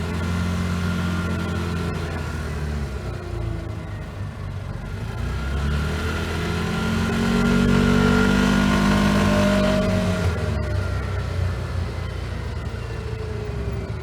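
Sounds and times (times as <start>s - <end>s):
vehicle engine accelerating: 0.0s - 14.0s.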